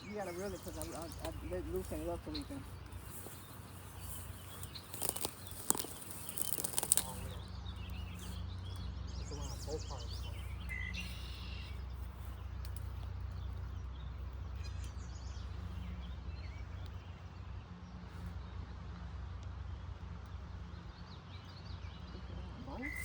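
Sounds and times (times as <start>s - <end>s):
bird chirps: 0.0s - 17.3s, 20.8s - 23.0s.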